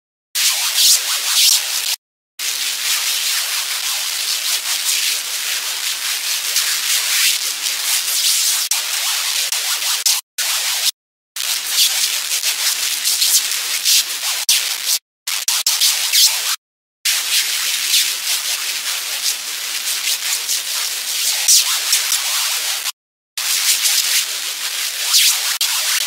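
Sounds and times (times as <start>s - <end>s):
harsh hissy scratching: 0.4s - 26.0s.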